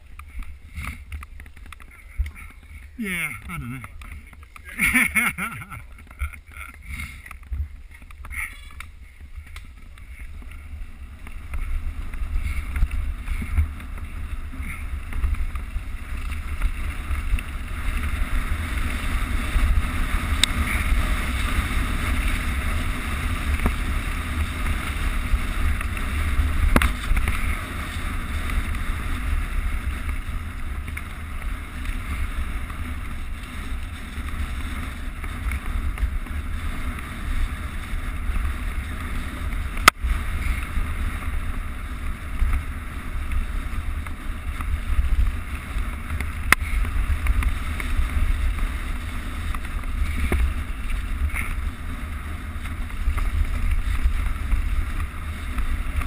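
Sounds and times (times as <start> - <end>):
tyres rolling on dirt trail: 0.0 - 56.0.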